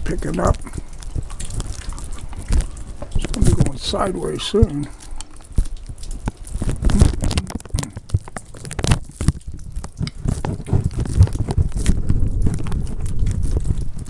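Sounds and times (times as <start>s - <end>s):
sharp crackling clicks: 0.0s - 14.0s
wind buffeting microphone: 0.0s - 14.0s.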